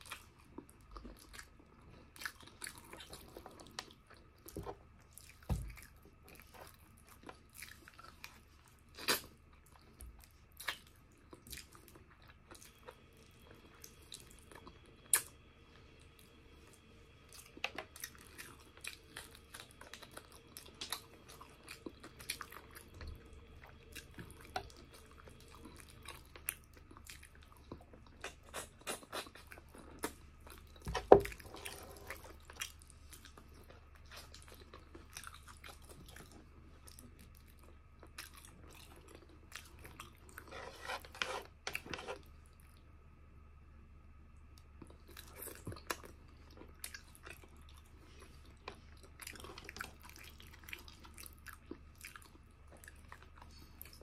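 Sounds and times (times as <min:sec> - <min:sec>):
wet chewing and smacking: 0:00.0 - 0:40.5, 0:44.5 - 0:54.0.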